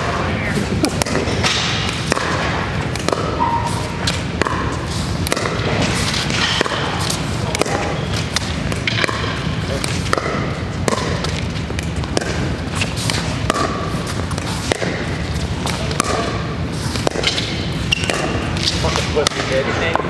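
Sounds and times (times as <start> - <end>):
paddles hitting plastic ball: 0.0 - 20.0.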